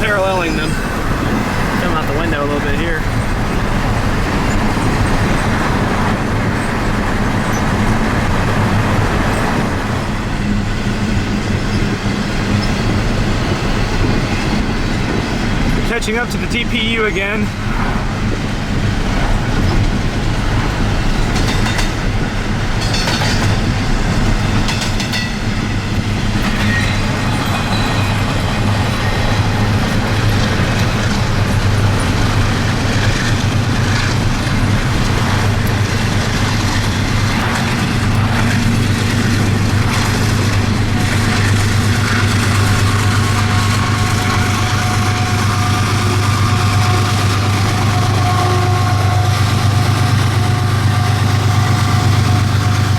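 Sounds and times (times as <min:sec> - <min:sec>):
freight train rumble: 0:00.0 - 0:52.9
wheels clicking over rail joints: 0:00.0 - 0:52.9.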